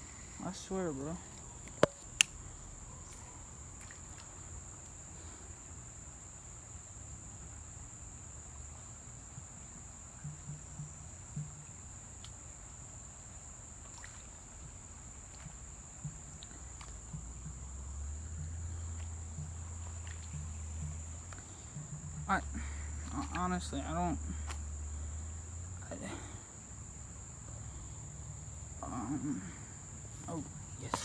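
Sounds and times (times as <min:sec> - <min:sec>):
insects singing: 0:00.0 - 0:31.0.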